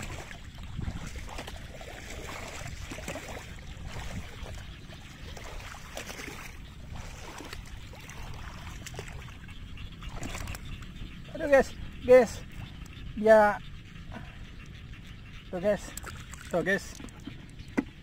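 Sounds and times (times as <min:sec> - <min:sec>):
water sloshing and splashing: 0:00.0 - 0:13.1, 0:14.2 - 0:18.0
wind rumble on microphone: 0:00.0 - 0:18.0.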